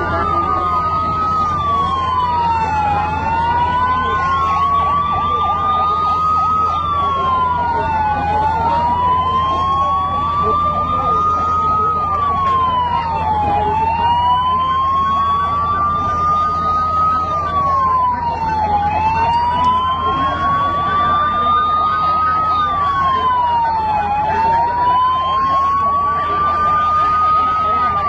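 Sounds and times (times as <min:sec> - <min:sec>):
emergency vehicle sirens: 0:00.0 - 0:28.0.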